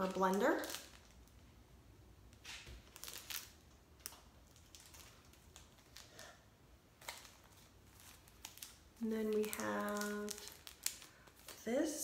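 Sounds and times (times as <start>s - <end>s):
plastic sleeve rustling: 0.0s - 1.6s, 2.3s - 12.0s.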